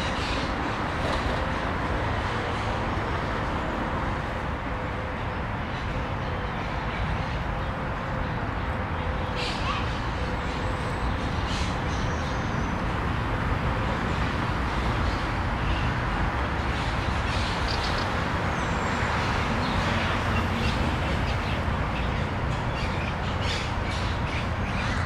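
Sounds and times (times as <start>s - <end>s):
traffic hum: 0.0s - 25.0s.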